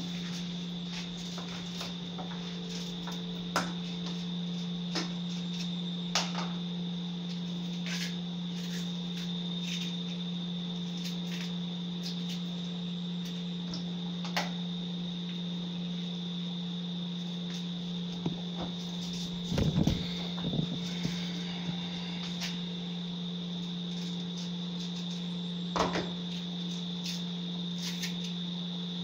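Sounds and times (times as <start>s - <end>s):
low hum with high whine: 0.0s - 29.0s.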